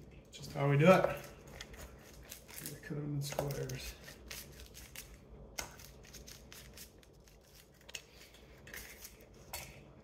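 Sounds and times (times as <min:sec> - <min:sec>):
blade scraping through crust: 0:01.2 - 0:09.6.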